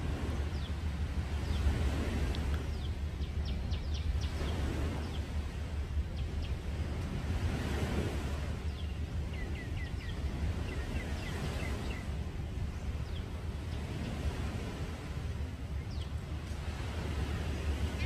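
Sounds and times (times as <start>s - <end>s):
steady low rumble: 0.0s - 18.0s
birds chirping: 0.1s - 18.0s.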